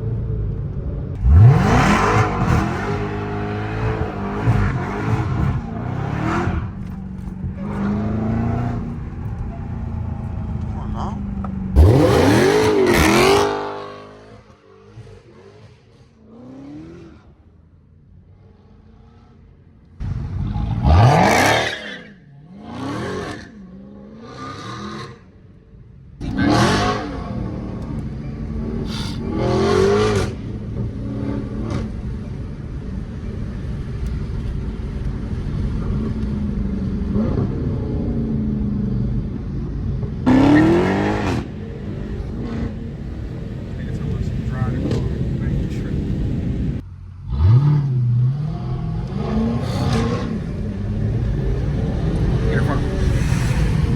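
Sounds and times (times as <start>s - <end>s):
engine low drone: 0.0s - 21.3s, 25.2s - 53.9s
car engine revving: 0.0s - 53.9s.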